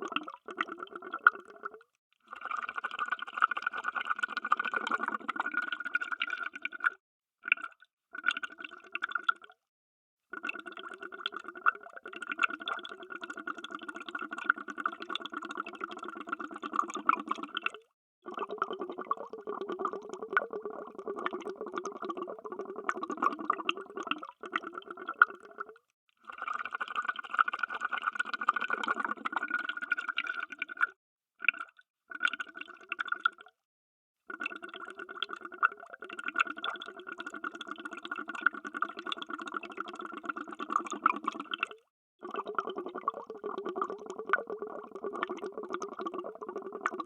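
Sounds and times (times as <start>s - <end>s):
underwater bubbling and gurgling: 0.0s - 9.5s, 10.4s - 33.5s, 34.3s - 47.0s.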